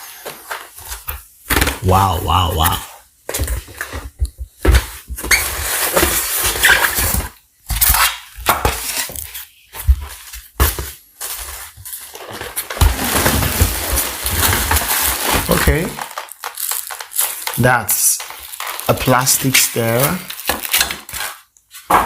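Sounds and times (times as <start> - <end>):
cardboard and plastic rustling: 0.0 - 22.0.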